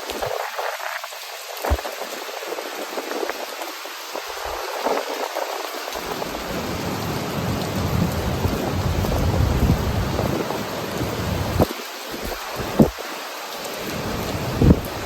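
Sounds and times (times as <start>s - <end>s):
ocean surf: 0.0s - 15.0s.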